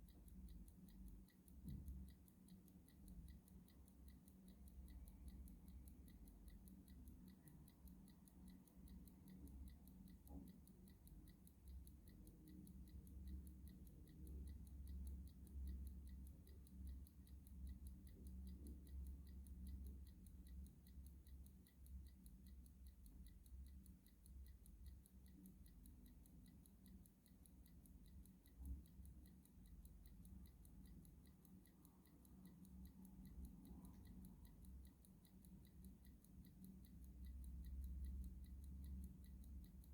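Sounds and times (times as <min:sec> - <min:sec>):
clock ticking faintly: 0:00.0 - 0:39.9.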